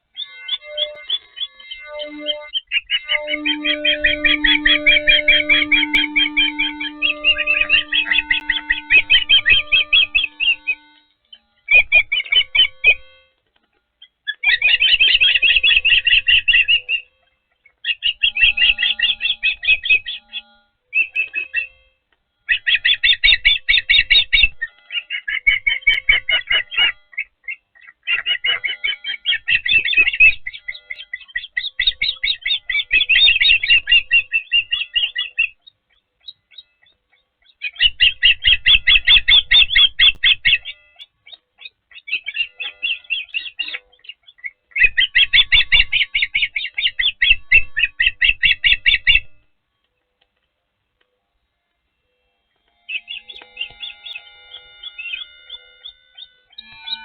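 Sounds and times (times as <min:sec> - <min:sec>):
osprey chirping whistles: 0:00.1 - 0:13.3, 0:14.0 - 0:49.4, 0:52.8 - 0:57.0.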